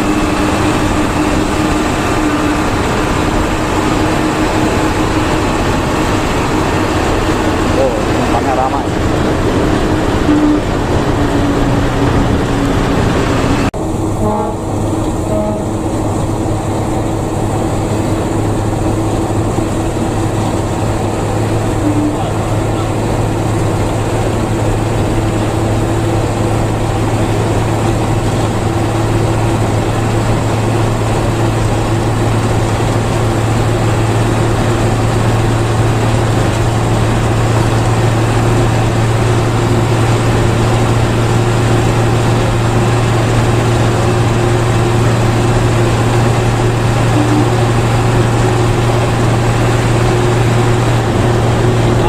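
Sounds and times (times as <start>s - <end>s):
bus engine drone: 0.0s - 52.0s
road noise: 0.0s - 52.0s.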